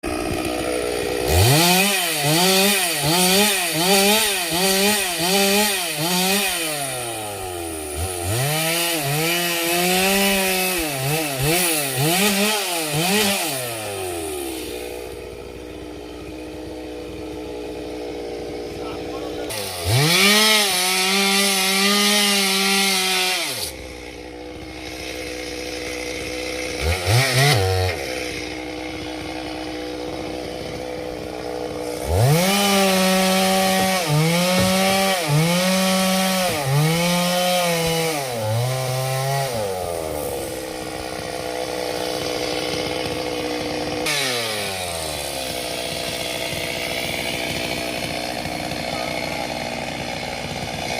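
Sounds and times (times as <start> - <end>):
chainsaw engine revving: 0.0 - 50.9
chainsaw idling: 0.0 - 50.9.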